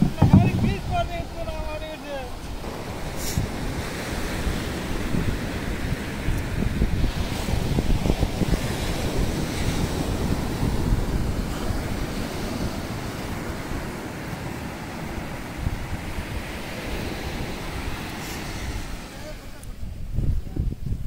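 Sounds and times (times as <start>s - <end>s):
sea surf: 0.0s - 20.4s
wind buffeting microphone: 0.0s - 21.0s.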